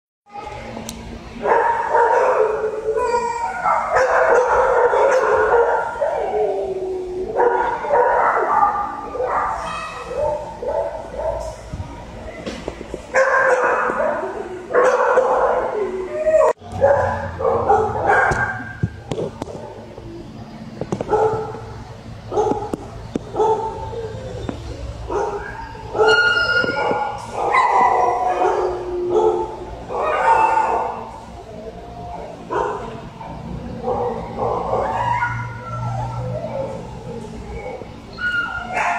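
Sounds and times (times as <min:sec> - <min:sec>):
dogs barking and howling: 0:01.4 - 0:11.6, 0:13.1 - 0:18.8, 0:22.3 - 0:38.9
dogs yipping cries: 0:01.4 - 0:11.6, 0:13.2 - 0:18.8, 0:22.3 - 0:38.9.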